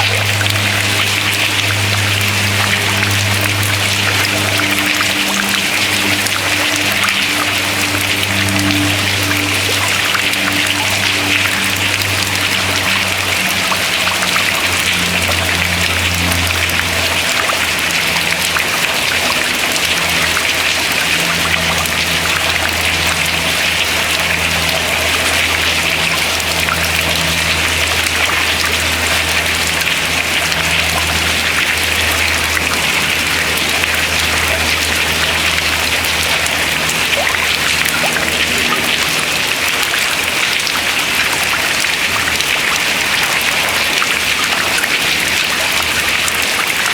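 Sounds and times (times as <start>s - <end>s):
low steady hum: 0.0s - 46.9s
water dripping into river: 0.0s - 46.9s.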